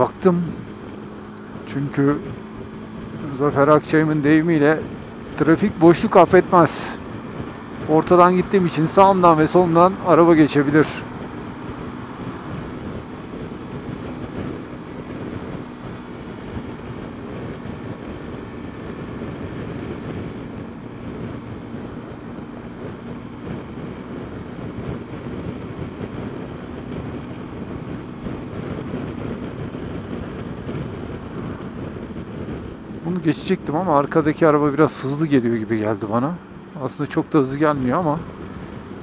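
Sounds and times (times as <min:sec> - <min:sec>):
road noise: 0:00.0 - 0:39.0
scooter engine drone: 0:00.0 - 0:39.0
wind rush on microphone: 0:00.0 - 0:39.0.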